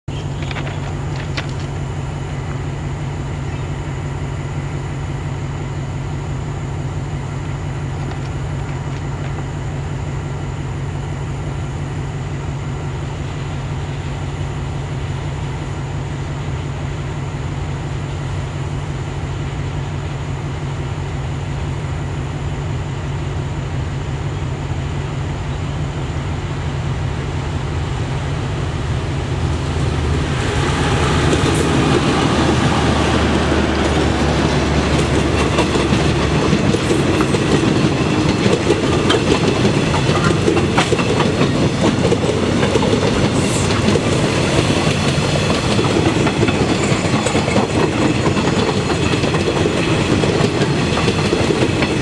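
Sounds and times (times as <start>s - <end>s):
diesel locomotive rumbling: 0.0s - 52.0s.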